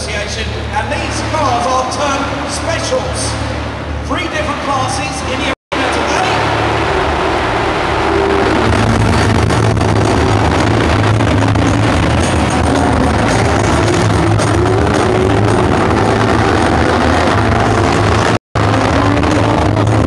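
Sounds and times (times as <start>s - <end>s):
racing car engines revving: 0.0s - 20.0s.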